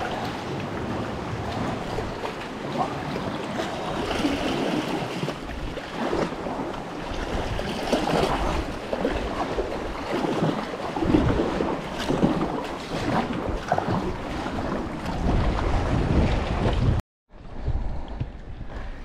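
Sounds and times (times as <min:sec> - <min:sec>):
paddle splashes: 0:00.0 - 0:17.0
water sloshing around kayak: 0:00.0 - 0:17.0
wind buffeting microphone: 0:00.0 - 0:19.0.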